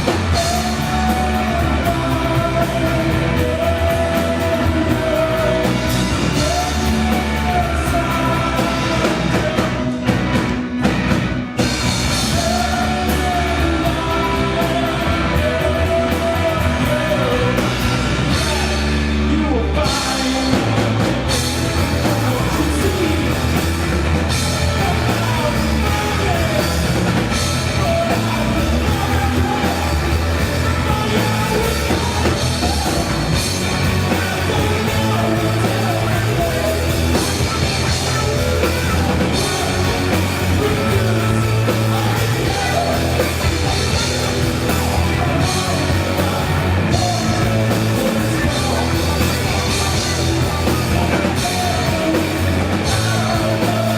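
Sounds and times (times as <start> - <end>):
person singing: 0.0 - 10.4, 11.9 - 53.9
drum kit: 0.0 - 53.9
strong bass: 0.0 - 53.9.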